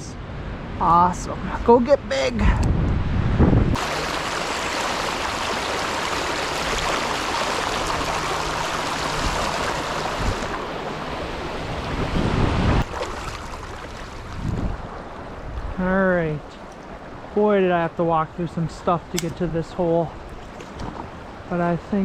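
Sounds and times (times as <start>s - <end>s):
creek water rushing: 3.8s - 22.0s.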